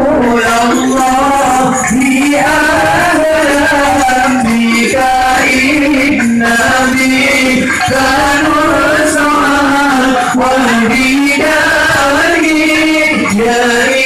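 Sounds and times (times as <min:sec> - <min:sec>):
person singing ornamented notes: 0:00.0 - 0:14.0.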